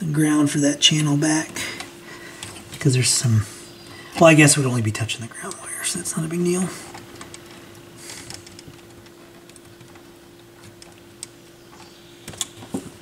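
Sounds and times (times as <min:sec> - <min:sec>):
faint steady hum: 0:00.0 - 0:13.0
wires clicking and rustling: 0:01.7 - 0:03.0, 0:03.8 - 0:13.0.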